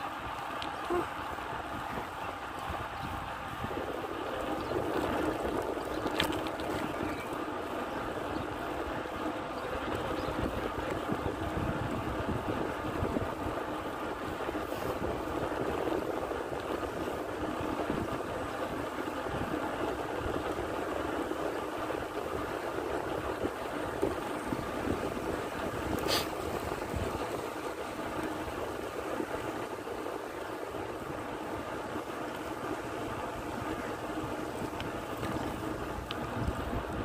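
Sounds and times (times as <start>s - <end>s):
rushing wind and road noise: 0.0s - 37.0s
wind buffeting microphone: 0.0s - 37.0s.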